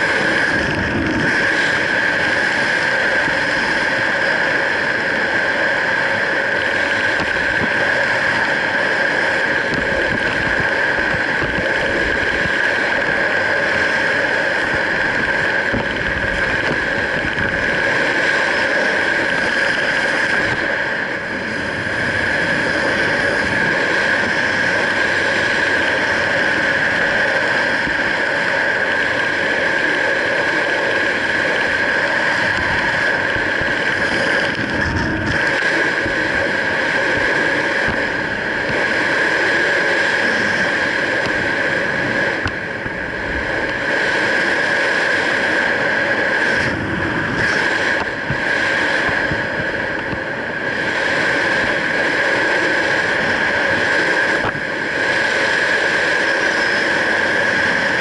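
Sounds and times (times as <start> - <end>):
high-pitched hum: 0.0 - 58.0
wind rushing over microphone: 0.0 - 58.0.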